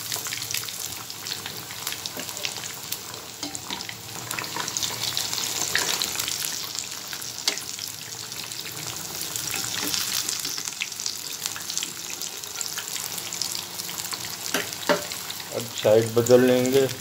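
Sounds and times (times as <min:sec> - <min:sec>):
fish deep-frying in hot oil: 0:00.0 - 0:17.0.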